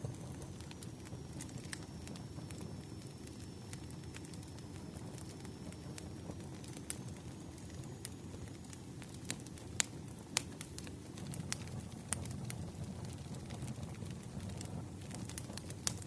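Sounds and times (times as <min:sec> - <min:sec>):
firewood crackling and popping: 0:00.0 - 0:16.0
low rush of burning fire: 0:00.0 - 0:16.0.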